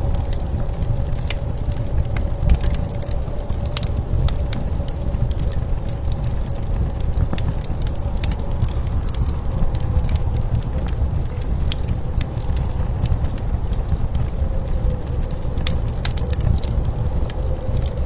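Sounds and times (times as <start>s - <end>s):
blizzard wind rumble: 0.0s - 18.0s
wind whistling: 0.0s - 18.0s
wood fire crackling: 0.0s - 18.0s.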